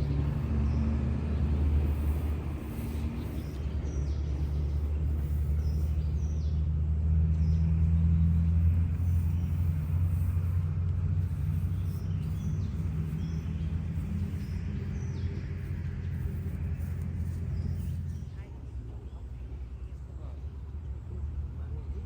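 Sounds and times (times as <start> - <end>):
motor engine running: 0.0 - 22.0.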